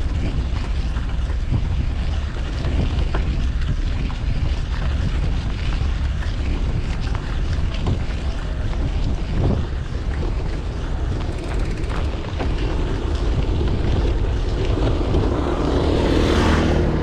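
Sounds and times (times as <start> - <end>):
street and traffic noise: 0.0 - 17.0
wind buffeting microphone: 0.0 - 17.0.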